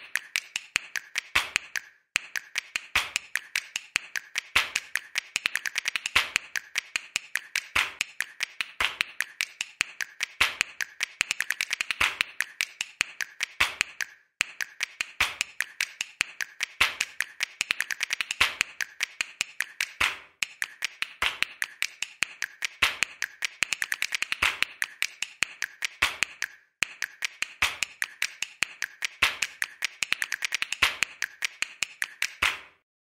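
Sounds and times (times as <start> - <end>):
rapid clicking and tapping: 0.0 - 32.7.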